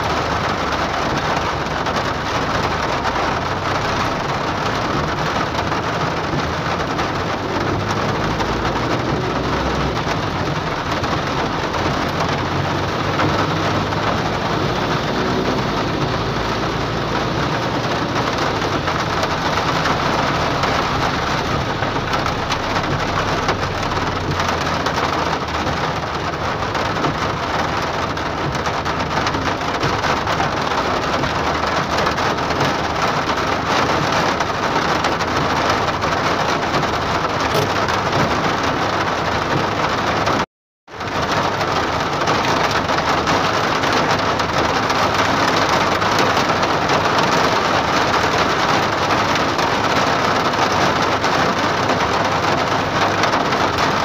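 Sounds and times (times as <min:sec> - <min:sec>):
hard rain drumming on car roof: 0:00.0 - 0:54.0.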